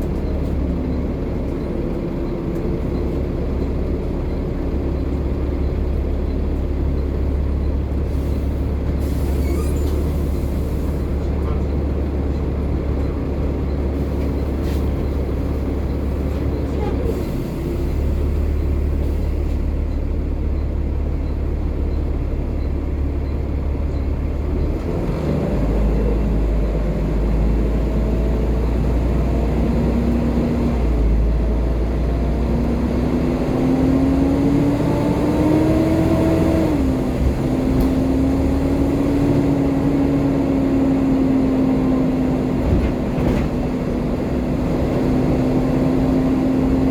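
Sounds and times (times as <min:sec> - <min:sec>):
bus engine droning: 0:00.0 - 0:46.9
bus engine whine pulling away: 0:00.0 - 0:46.9.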